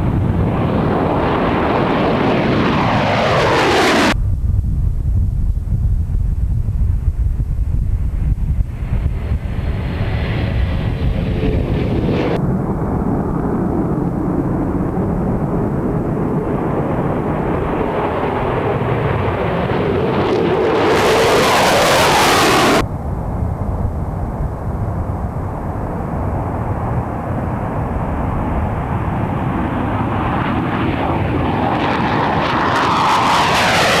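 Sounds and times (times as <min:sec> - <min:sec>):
jet aircraft taking off: 0:00.0 - 0:34.0.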